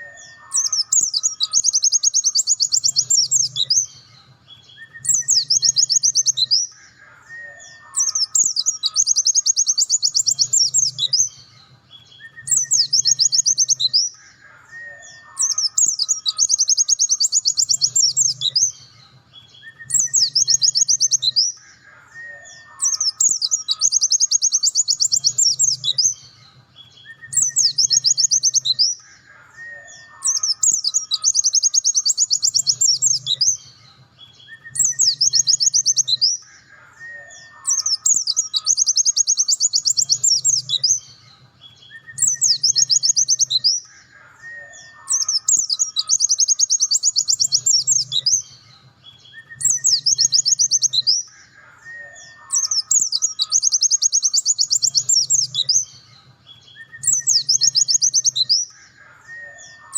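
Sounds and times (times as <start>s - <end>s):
bird singing a fast high trill: 0.0s - 33.6s, 34.4s - 36.4s, 37.0s - 59.9s.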